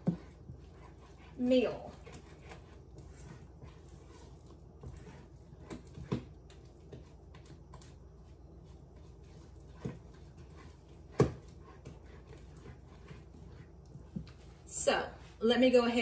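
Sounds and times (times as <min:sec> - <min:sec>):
utensil stirring mashed potatoes: 0:00.0 - 0:16.0.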